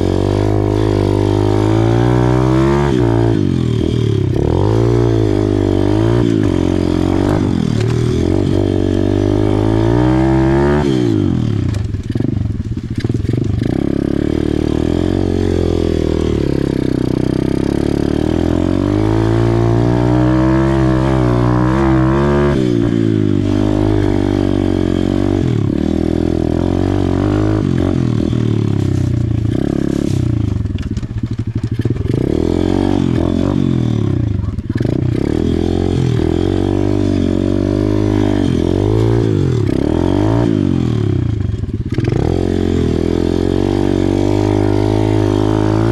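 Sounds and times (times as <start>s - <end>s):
pit bike engine revving: 0.0s - 45.9s.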